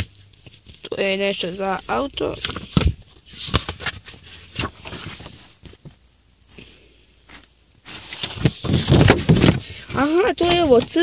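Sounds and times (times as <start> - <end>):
paper rustling: 0.3 - 6.0, 7.3 - 11.0.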